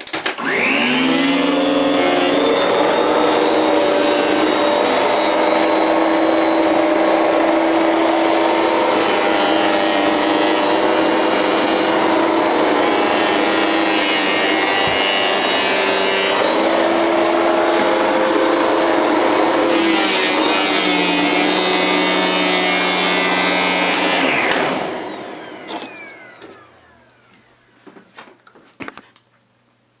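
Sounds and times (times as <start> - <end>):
vacuum cleaner running: 0.3 - 28.0
motor whining down: 0.4 - 27.3.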